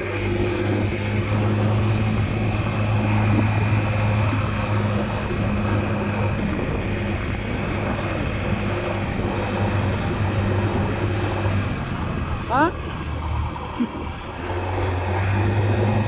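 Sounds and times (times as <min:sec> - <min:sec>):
road and wind noise: 0:00.0 - 0:16.0
scooter engine drone: 0:00.0 - 0:16.0.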